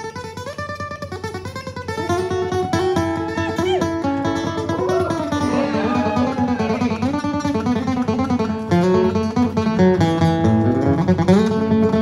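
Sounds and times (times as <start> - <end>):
acoustic guitar picking and strumming: 0.0 - 12.0.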